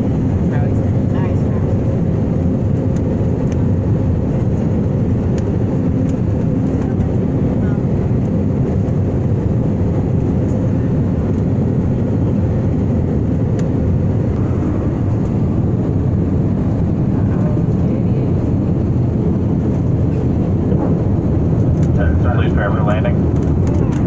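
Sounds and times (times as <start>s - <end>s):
airliner cabin engine noise: 0.0s - 24.0s.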